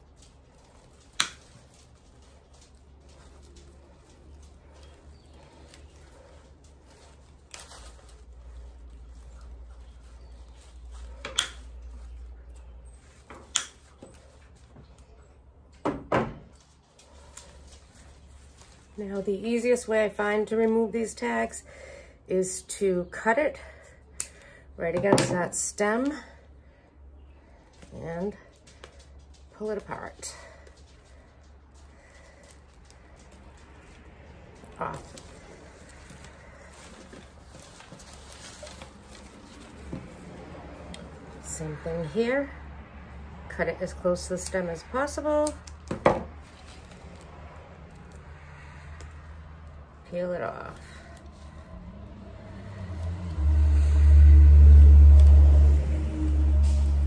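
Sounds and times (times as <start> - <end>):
rustling of artificial flowers: 0.0 - 57.0.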